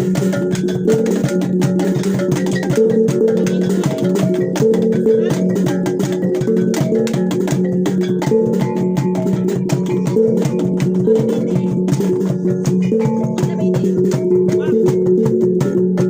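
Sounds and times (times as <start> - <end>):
plucked notes: 0.0 - 16.0
rhythmic clicking strokes: 0.0 - 16.0.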